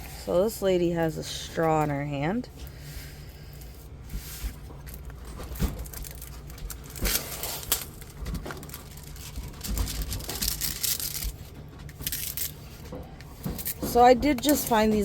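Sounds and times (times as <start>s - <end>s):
plastic crinkling and rustling: 2.7s - 15.0s.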